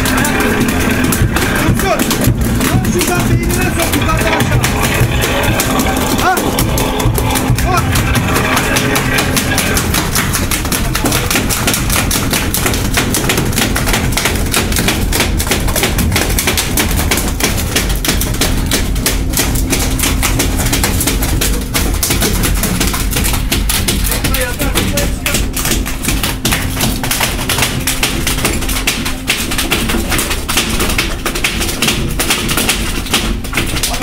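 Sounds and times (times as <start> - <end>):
fish tail tapping: 0.0 - 34.0.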